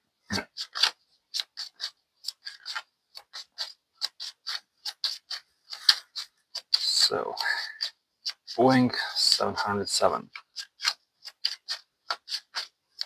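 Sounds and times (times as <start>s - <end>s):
cards being shuffled by hand: 0.3s - 13.0s.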